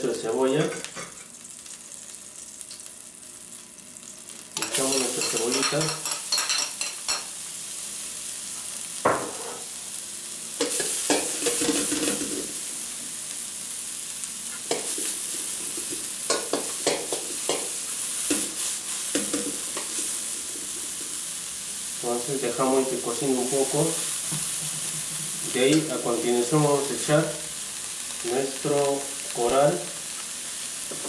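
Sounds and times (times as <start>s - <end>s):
onion sizzling in hot oil: 0.0s - 31.0s.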